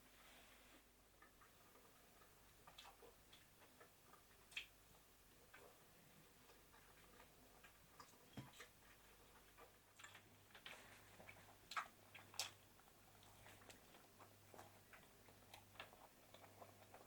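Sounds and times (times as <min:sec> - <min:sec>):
faint clicks and taps: 0:01.2 - 0:17.0.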